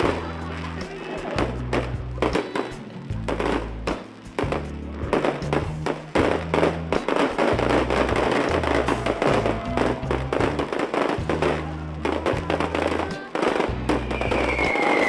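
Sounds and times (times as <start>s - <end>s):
fireworks bursting and crackling: 0.0s - 15.0s
music with deep bass: 0.0s - 15.0s.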